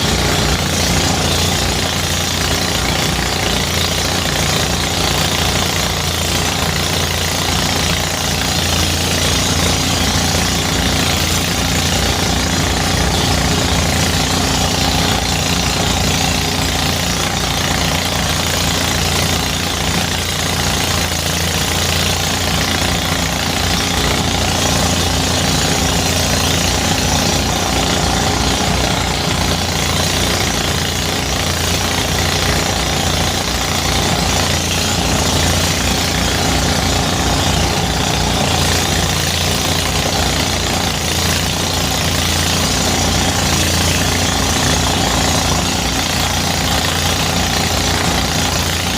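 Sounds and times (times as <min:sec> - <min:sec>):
threshing machine running: 0:00.0 - 0:48.9.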